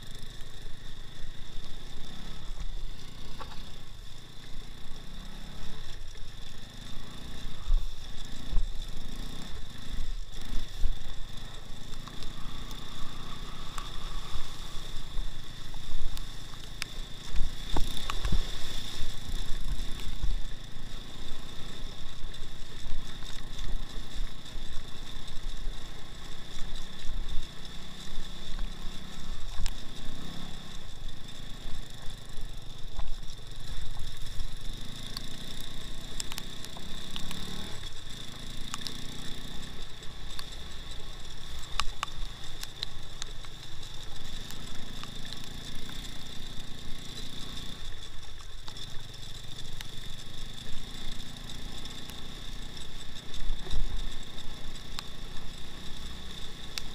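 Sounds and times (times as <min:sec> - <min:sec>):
high whine: 0:00.0 - 0:56.9
motorcycle engine revving: 0:00.0 - 0:56.9.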